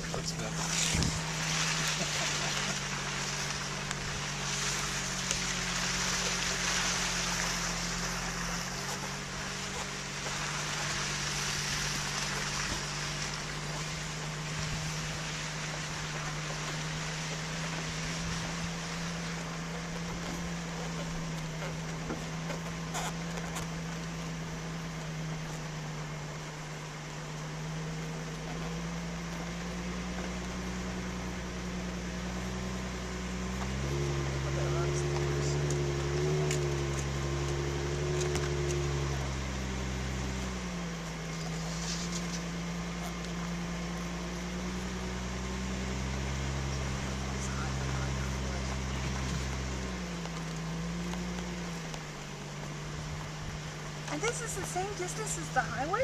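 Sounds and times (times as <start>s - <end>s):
engine humming: 0.0s - 56.0s
road noise: 0.0s - 56.0s
wind and tyre noise: 0.0s - 56.0s.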